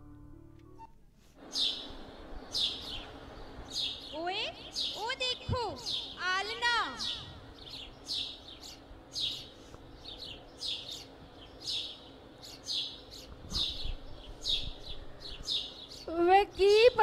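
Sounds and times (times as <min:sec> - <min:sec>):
small birds chirping: 0:01.3 - 0:17.0.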